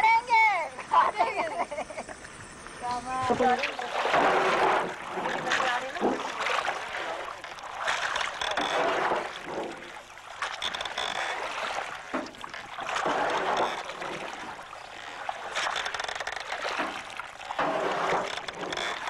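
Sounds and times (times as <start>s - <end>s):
oars splashing in water: 2.2s - 19.0s.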